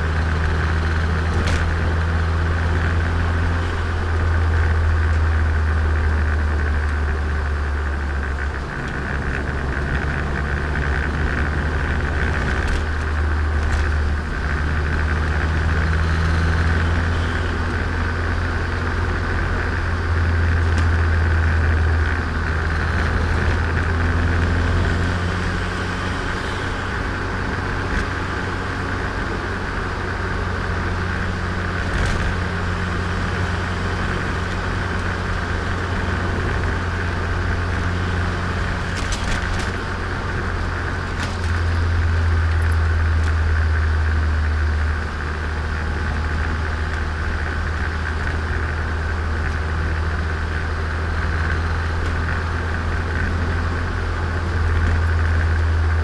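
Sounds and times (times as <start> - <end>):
car engine drone: 0.0 - 56.0
road noise: 0.0 - 56.0.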